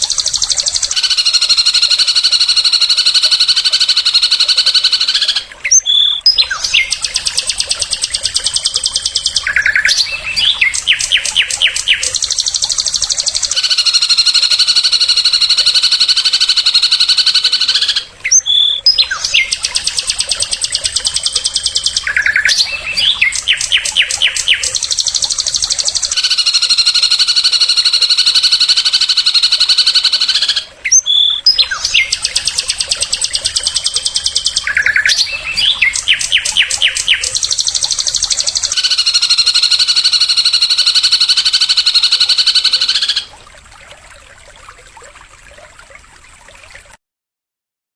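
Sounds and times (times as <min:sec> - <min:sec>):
songbird buzzy trills: 0:00.0 - 0:46.4.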